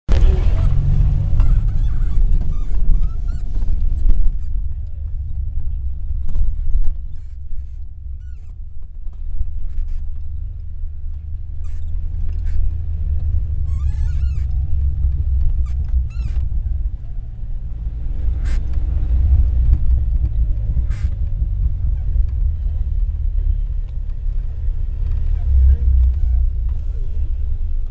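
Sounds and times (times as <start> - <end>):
vehicle squeaks: 0.1 - 5.5, 6.1 - 27.8
vehicle rumble from inside cabin: 0.1 - 27.9.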